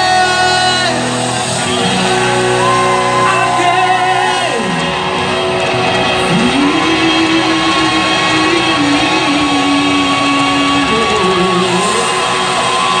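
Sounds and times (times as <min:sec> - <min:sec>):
electric guitar gliding between notes: 0:00.0 - 0:13.0
live rock band playing: 0:00.0 - 0:13.0.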